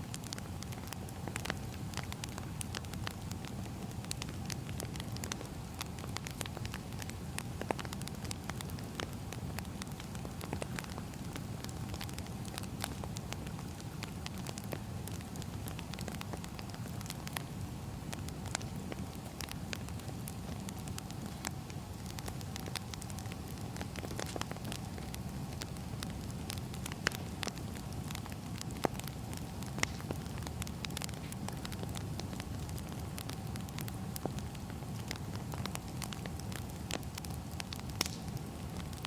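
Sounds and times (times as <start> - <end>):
firewood crackling and popping: 0.0 - 39.0.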